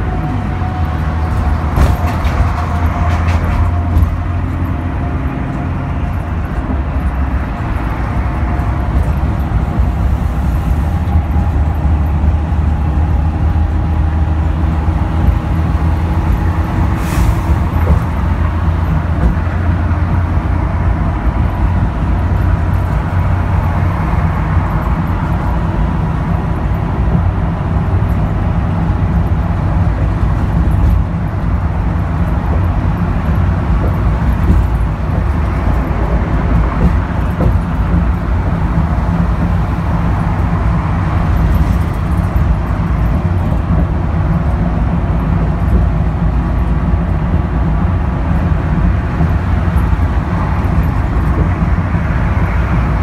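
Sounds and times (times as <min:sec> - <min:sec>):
bus engine drone: 0:00.0 - 0:53.0
tyre and road noise: 0:00.0 - 0:53.0.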